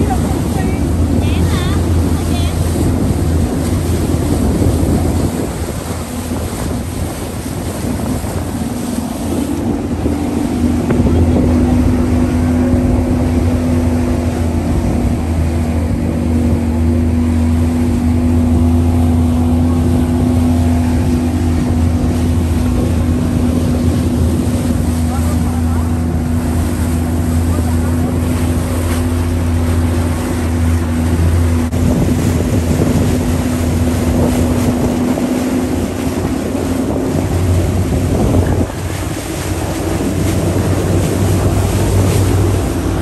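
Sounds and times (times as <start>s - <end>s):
motorboat engine droning: 0.0s - 43.0s
wind on microphone: 0.0s - 43.0s.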